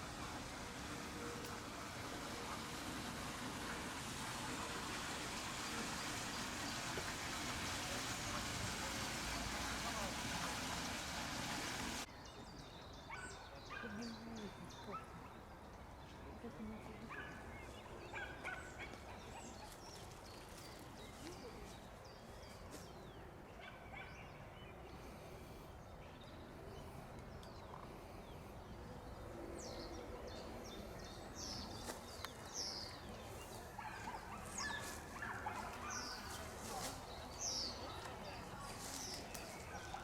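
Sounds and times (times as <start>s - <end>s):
small birds chirping: 3.6s - 40.0s.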